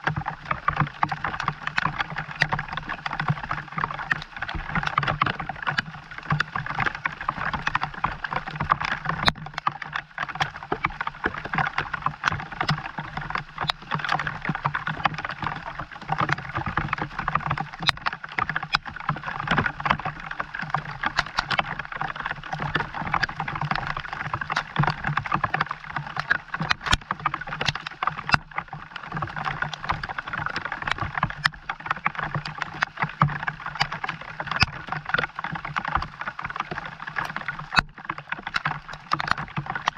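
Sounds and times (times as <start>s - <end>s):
raindrops striking close by: 0.0s - 39.9s.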